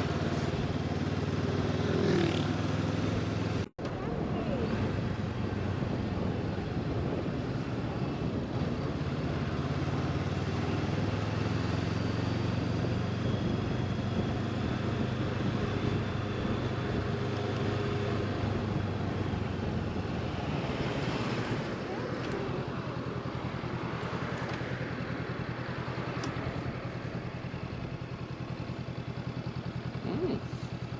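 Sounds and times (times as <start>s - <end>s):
motorcycle engine droning: 0.0s - 30.9s.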